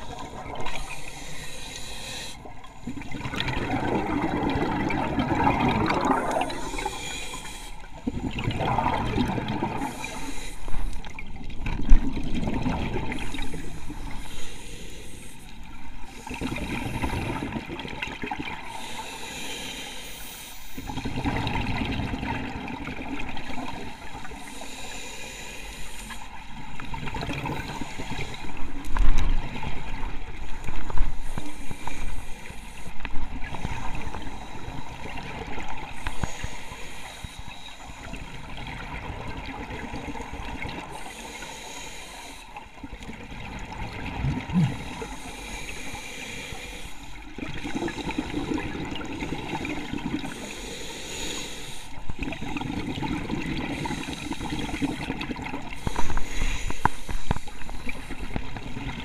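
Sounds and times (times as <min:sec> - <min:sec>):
regulator bubbles gurgling underwater: 0:00.0 - 0:25.2, 0:26.0 - 0:59.0.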